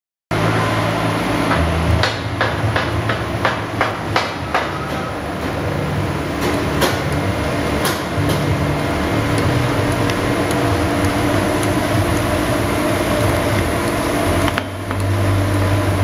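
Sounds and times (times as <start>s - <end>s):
machine motor hum: 0.3s - 16.0s.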